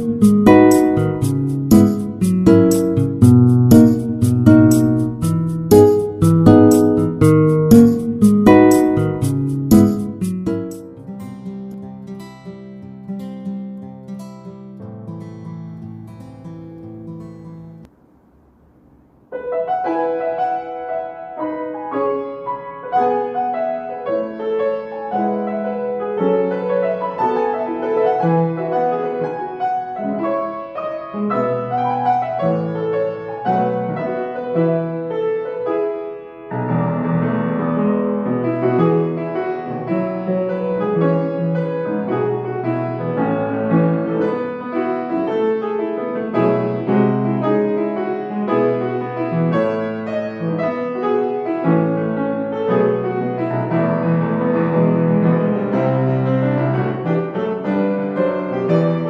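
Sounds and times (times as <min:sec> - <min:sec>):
solo piano playing: 0:00.0 - 0:18.0, 0:19.2 - 0:59.0.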